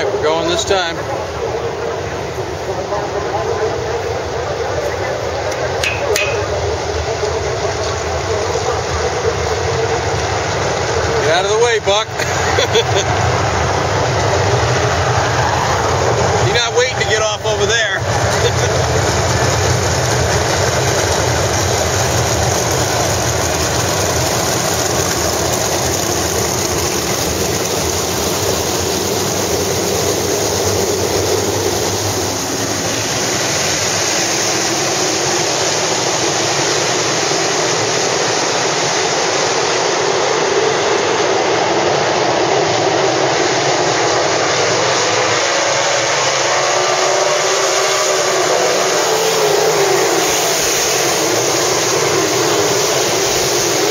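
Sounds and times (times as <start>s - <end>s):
racing car engines: 0.0s - 53.9s.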